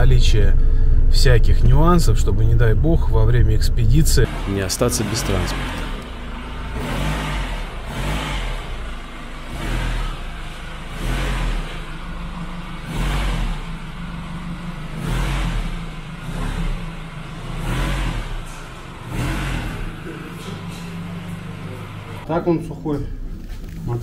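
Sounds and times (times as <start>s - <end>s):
pickup truck engine surging: 0.0s - 22.3s.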